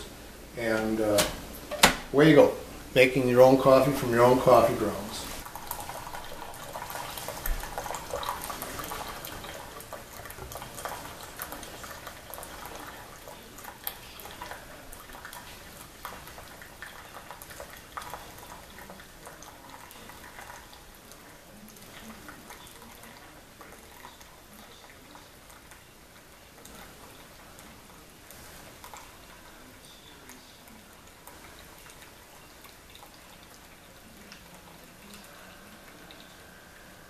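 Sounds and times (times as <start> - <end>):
coffee trickling into a mug: 0.0 - 37.0.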